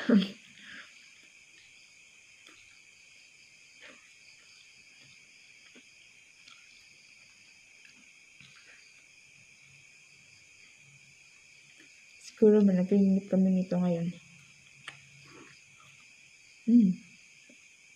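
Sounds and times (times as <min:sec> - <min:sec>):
night insects chirring: 0:00.0 - 0:17.9.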